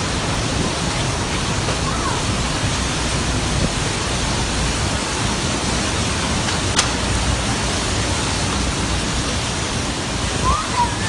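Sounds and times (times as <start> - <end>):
rain: 0.0 - 11.0
storm wind: 0.0 - 11.0.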